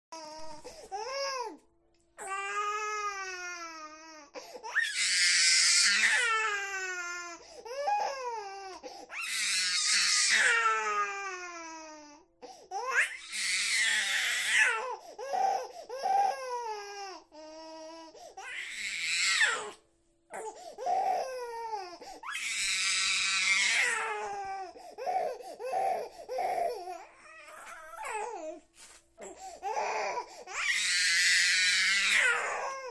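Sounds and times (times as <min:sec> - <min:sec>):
infant crying: 0:00.2 - 0:01.6, 0:02.2 - 0:28.6, 0:29.2 - 0:32.9.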